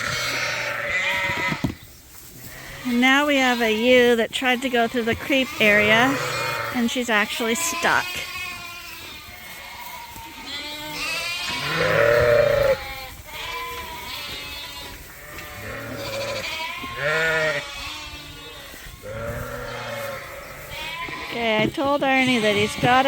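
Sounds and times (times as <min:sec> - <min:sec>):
sheep bleating: 0:00.0 - 0:01.6, 0:02.5 - 0:23.0.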